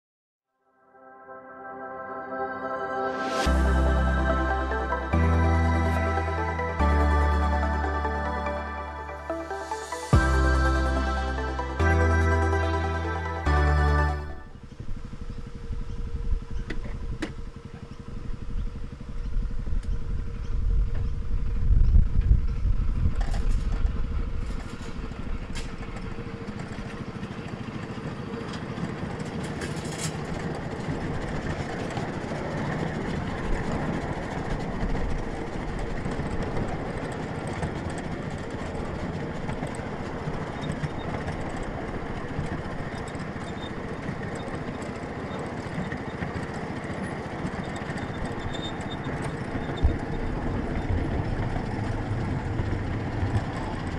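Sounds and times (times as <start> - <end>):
miniature train running on track: 3.4 - 53.9.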